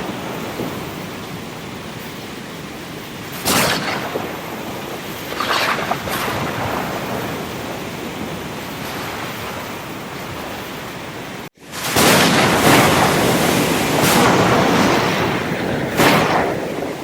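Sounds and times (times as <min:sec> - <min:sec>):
sea surf washing: 0:00.0 - 0:17.0
waves crashing: 0:00.0 - 0:17.0.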